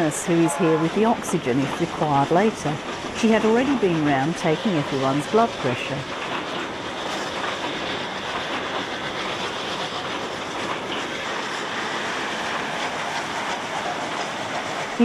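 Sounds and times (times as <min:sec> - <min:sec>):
train running on track: 0:00.0 - 0:15.0.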